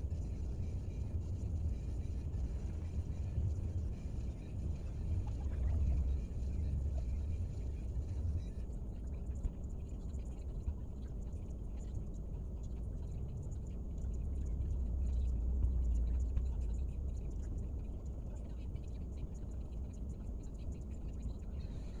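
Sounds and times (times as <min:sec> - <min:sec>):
low rumble inside car: 0:00.0 - 0:22.0.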